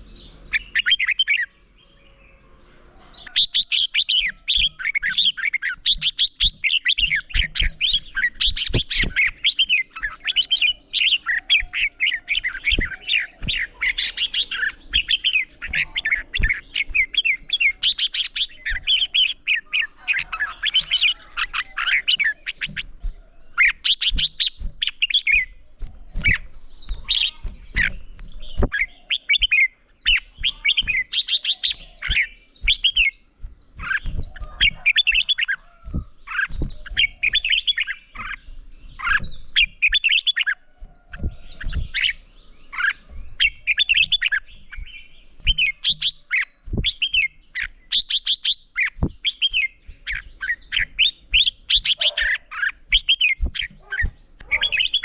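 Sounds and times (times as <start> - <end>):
bird warbling song: 0.0 - 55.0.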